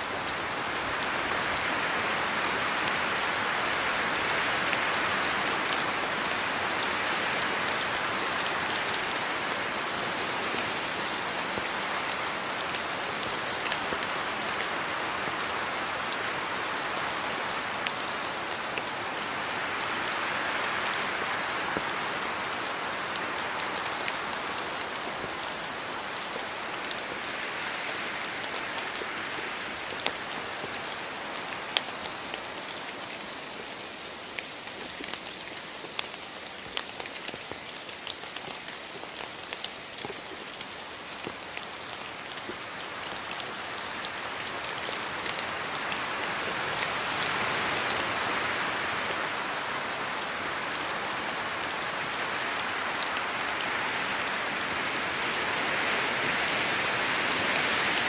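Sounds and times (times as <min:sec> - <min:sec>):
raindrops ticking on hard surfaces: 0:00.0 - 0:58.0
steady rain falling: 0:00.0 - 0:58.0.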